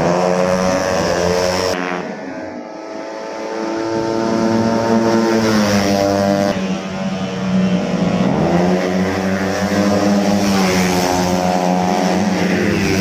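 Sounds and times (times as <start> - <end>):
approaching scooter rising pitch: 0.0 - 13.0
scooter engines at high revs: 0.0 - 13.0.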